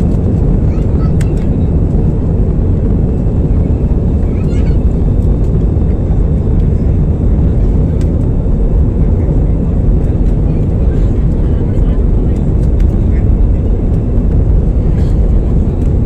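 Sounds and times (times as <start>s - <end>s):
airliner engine and airflow rumble: 0.0s - 16.0s.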